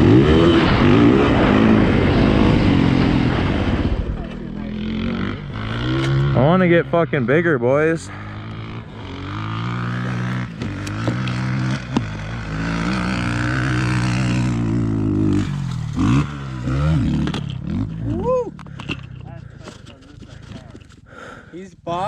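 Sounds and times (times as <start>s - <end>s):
dirt bike engine revving: 0.0s - 19.6s.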